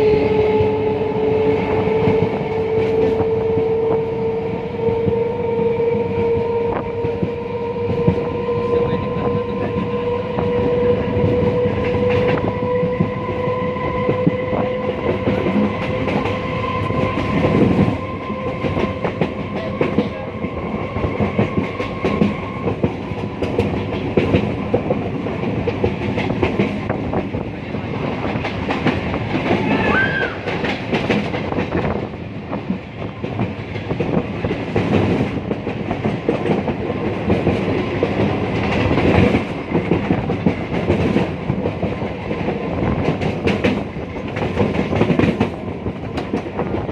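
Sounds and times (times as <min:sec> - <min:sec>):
train wheels clacking on rails: 0:00.0 - 0:46.9.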